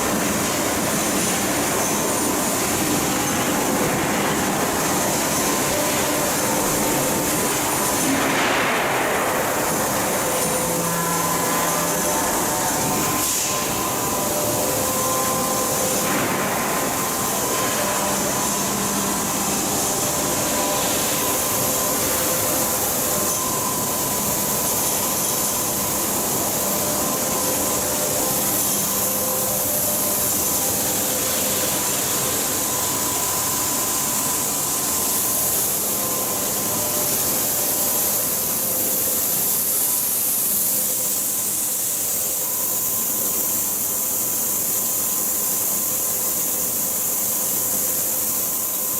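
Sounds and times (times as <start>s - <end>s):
machinery drone with high hiss: 0.0s - 48.9s.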